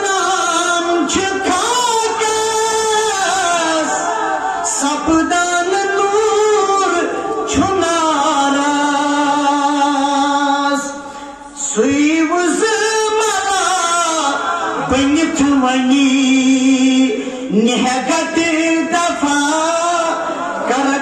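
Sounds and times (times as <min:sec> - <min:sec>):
man singing: 0:00.0 - 0:21.0.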